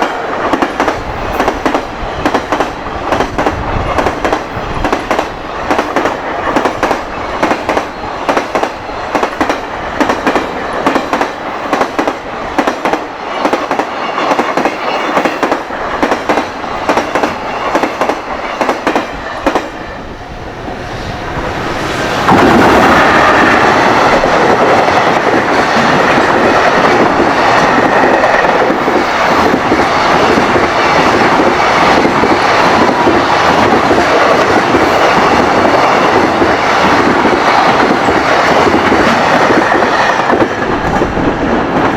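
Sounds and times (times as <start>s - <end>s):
rumble of wheels on rail: 0.0s - 41.9s.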